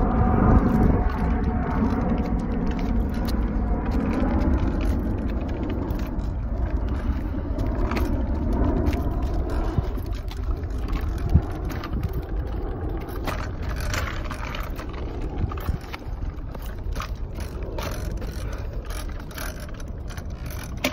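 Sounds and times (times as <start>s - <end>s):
bicycle hub clicking: 0.0s - 20.9s
bicycle rattling: 0.0s - 20.9s.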